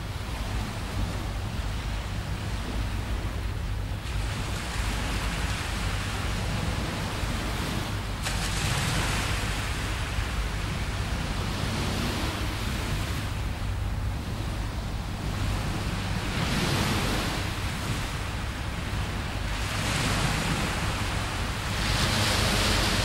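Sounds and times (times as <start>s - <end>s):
small waves washing ashore: 0.0s - 23.0s.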